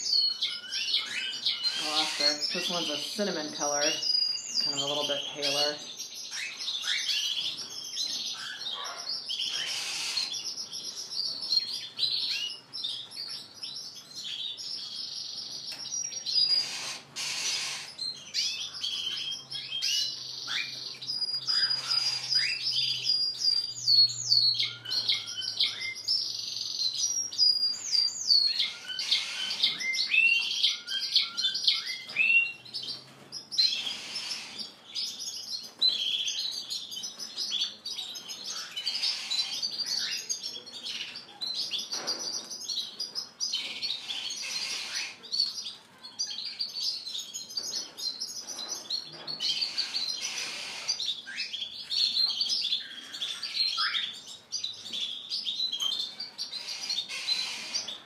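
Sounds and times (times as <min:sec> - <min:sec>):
canaries singing trills: 0:00.0 - 0:58.0.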